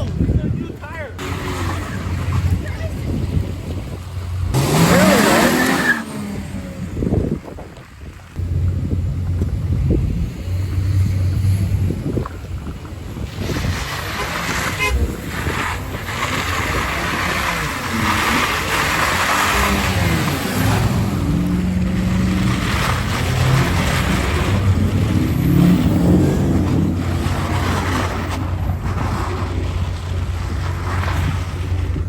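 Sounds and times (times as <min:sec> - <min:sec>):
truck engine revving: 0:01.1 - 0:32.0.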